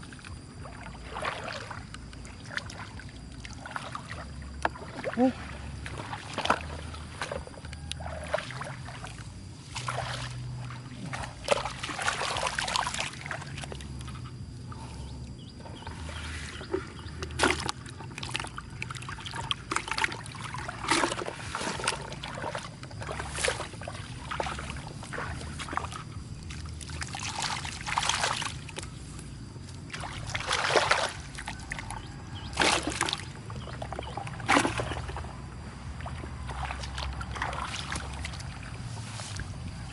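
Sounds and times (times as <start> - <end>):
low steady rumble: 0.0 - 39.9
muddy water sloshing and splashing: 0.0 - 39.9.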